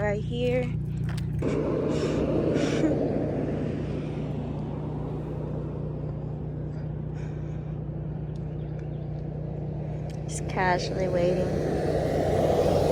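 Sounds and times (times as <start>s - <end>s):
car engine idling: 0.0s - 12.9s
passing vehicle road noise: 0.8s - 12.9s.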